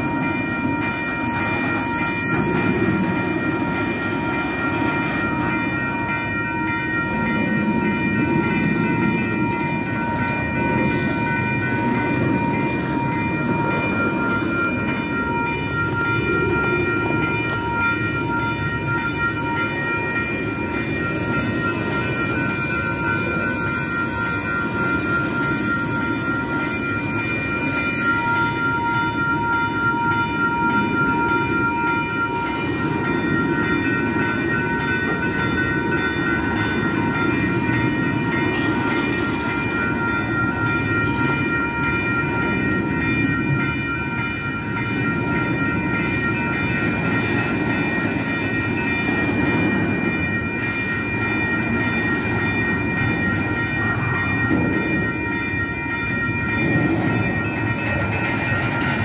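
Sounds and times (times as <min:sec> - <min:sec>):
high-pitched ringing tones: 0:00.0 - 0:59.0
train wheels rumbling on rail: 0:00.0 - 0:59.0.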